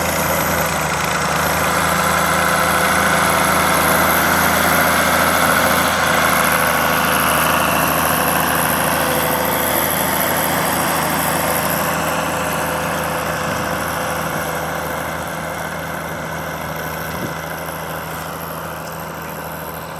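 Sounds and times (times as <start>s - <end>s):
tractor diesel engine running: 0.0s - 19.9s.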